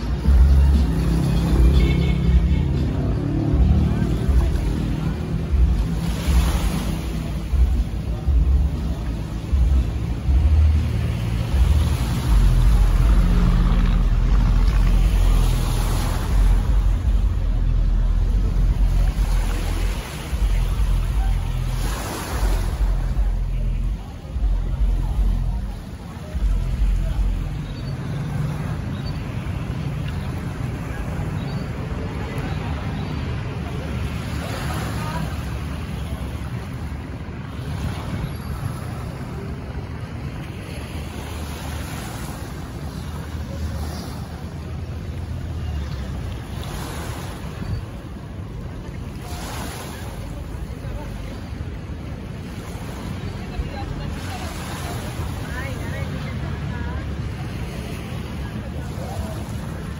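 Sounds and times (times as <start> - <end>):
sea water washing on shore: 0.0 - 59.9
wind rumble on microphone: 3.5 - 59.9.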